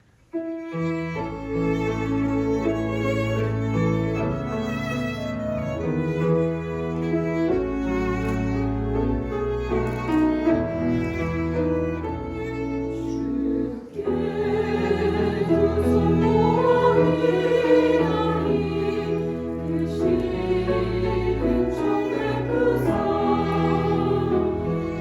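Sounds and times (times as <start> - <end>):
bowed strings playing: 0.9 - 25.0.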